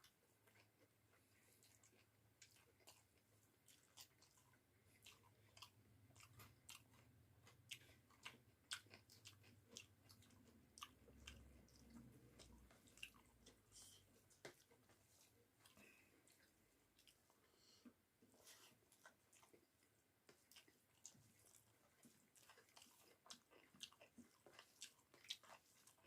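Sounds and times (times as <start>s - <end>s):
mouth chewing food: 0.0s - 26.0s.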